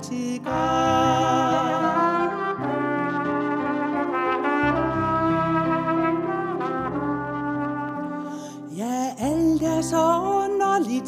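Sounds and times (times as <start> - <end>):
trumpet slow melody: 0.0 - 9.4
digital piano chords: 0.0 - 11.0.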